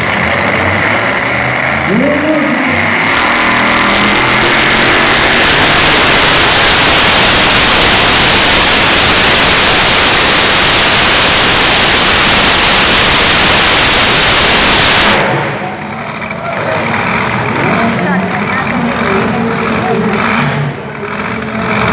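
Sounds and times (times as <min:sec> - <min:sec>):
truck engine at full throttle: 0:00.0 - 0:21.9.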